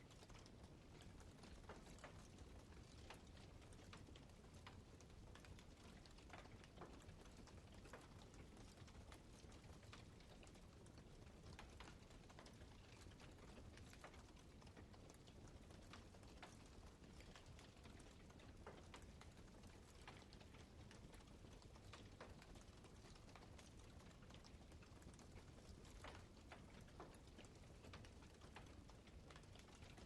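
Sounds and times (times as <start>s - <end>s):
crackles and pops of burning wood: 0.0s - 30.0s.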